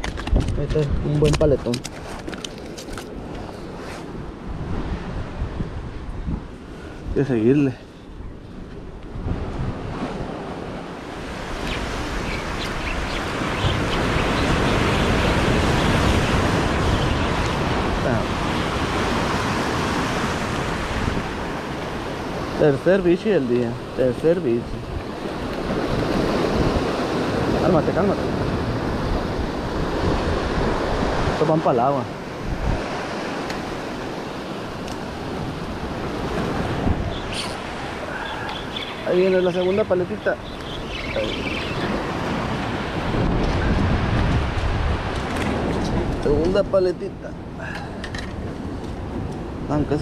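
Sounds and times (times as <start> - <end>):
waves breaking over rocks: 9.8 - 50.0.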